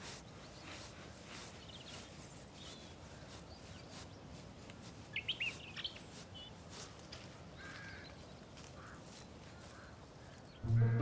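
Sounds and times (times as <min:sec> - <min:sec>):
quiet forest ambience: 0:00.0 - 0:11.0
small birds chirping: 0:00.0 - 0:11.0.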